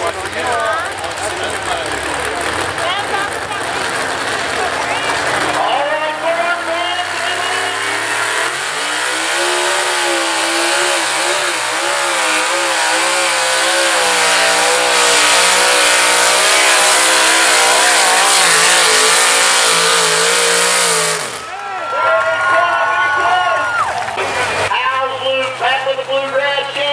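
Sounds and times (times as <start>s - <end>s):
diesel engine revving: 0.0s - 21.6s.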